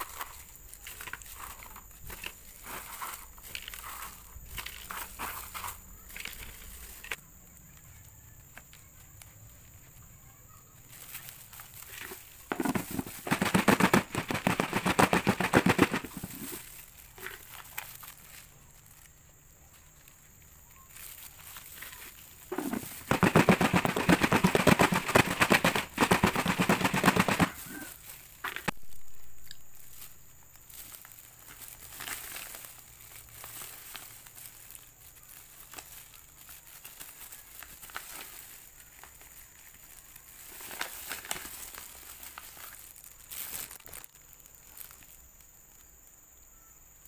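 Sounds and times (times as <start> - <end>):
fried noodles rattling in plastic bowl: 0.0 - 7.2, 10.8 - 19.1, 19.8 - 28.8, 29.7 - 45.1.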